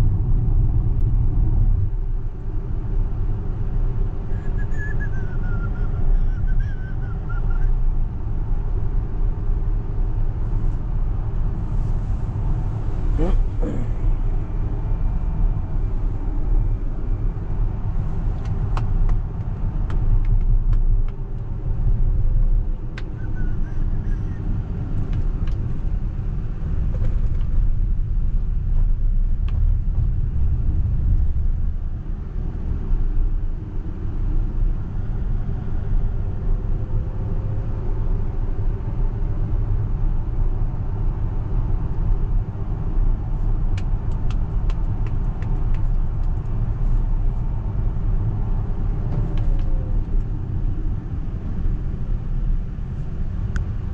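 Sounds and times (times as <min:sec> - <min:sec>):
road and tyre rumble: 0:00.0 - 0:53.9.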